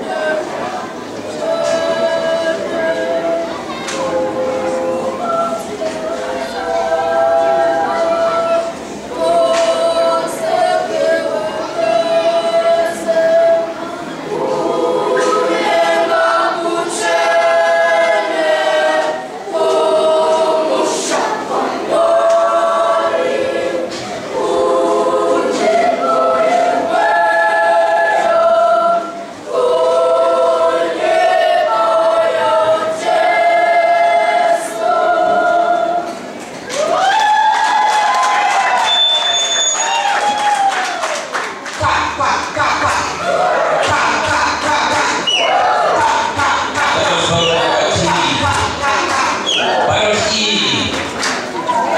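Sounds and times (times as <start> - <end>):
children's choir singing: 0.0 - 40.2, 40.8 - 51.9.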